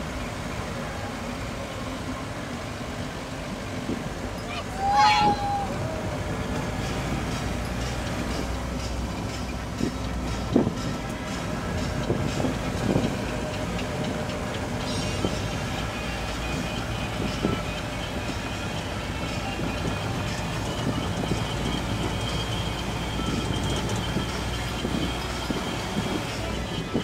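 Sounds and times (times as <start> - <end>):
vehicle ride rumble: 0.0 - 27.0.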